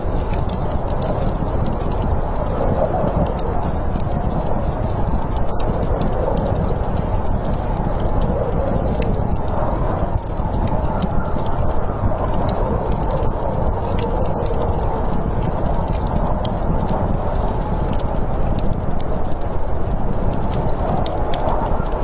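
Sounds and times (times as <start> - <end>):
snowstorm wind rushing: 0.0 - 22.0
wood fire crackling: 0.0 - 22.0.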